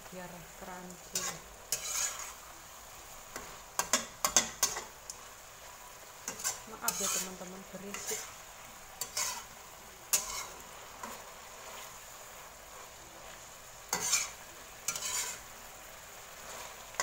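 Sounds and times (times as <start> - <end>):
vegetables sizzling in a wok: 0.0 - 17.0
spatula scraping a wok: 1.1 - 17.0.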